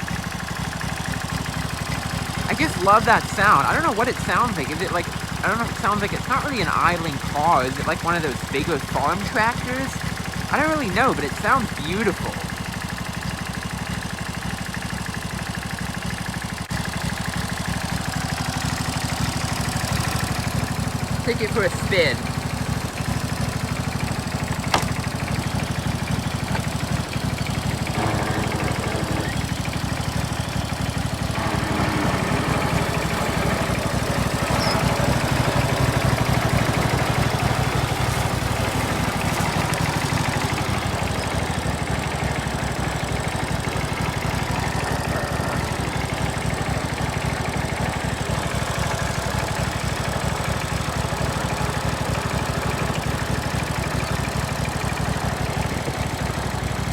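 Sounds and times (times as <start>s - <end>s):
lawn tractor engine running: 0.0s - 56.9s.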